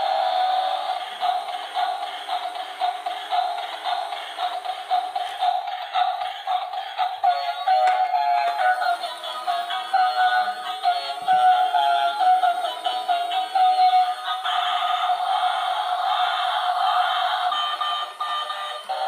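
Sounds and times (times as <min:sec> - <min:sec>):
toy car electronic tune: 0:00.0 - 0:19.0.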